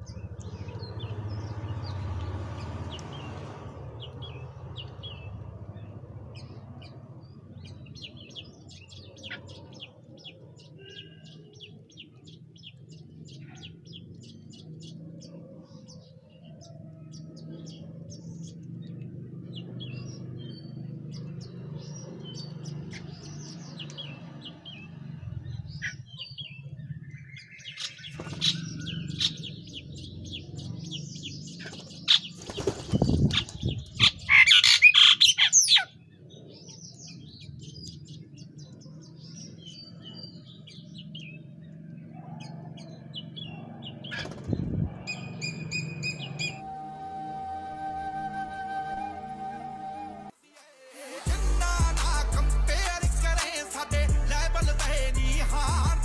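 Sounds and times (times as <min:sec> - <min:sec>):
birds chirping: 0:00.0 - 0:50.4, 0:51.3 - 0:56.0.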